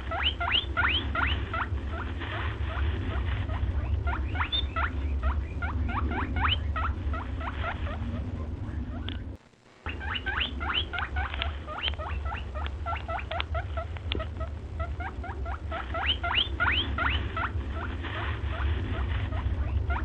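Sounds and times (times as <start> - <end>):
small animals squeaking: 0.0 - 9.3, 9.9 - 20.0
steady low hum: 0.0 - 20.0.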